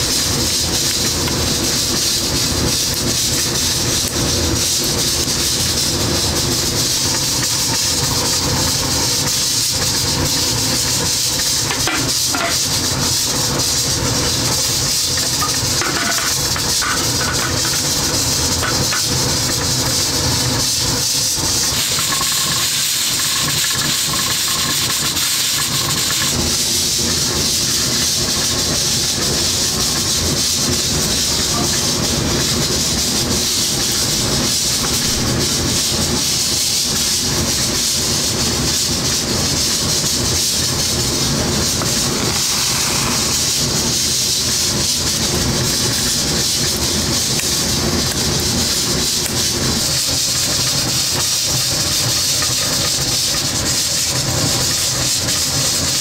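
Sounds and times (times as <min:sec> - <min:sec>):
steam hissing: 0:00.0 - 0:56.0.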